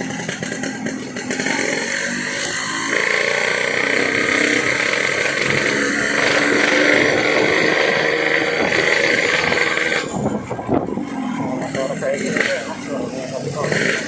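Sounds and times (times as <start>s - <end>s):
two-stroke motorcycle engine running: 0.0s - 14.0s.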